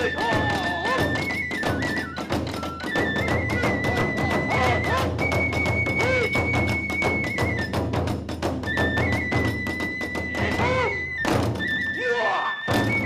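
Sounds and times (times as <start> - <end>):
drum strikes: 0.0 - 11.8, 12.7 - 13.0
bamboo flute playing high notes: 0.0 - 13.0.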